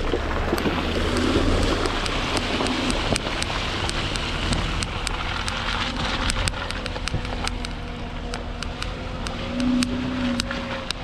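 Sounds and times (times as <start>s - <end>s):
car engine rumbling: 0.0s - 11.0s
tyres splashing through muddy water: 0.0s - 11.0s.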